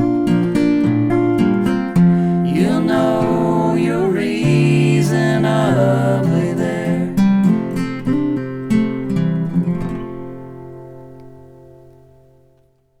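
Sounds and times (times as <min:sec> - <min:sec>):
acoustic guitar folk song: 0:00.0 - 0:13.0.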